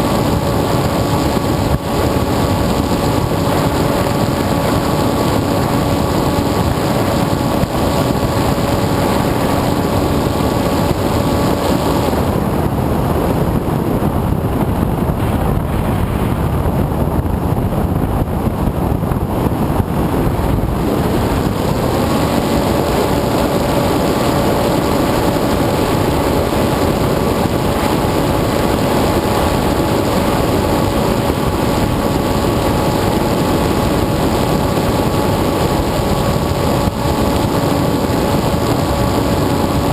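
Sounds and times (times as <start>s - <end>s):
drone motor humming: 0.0s - 39.9s
wind rush: 0.0s - 39.9s.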